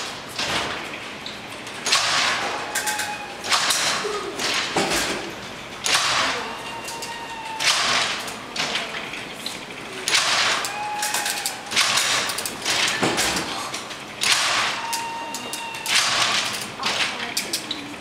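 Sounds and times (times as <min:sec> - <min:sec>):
mechanical calculator gears clattering: 0:00.0 - 0:18.0.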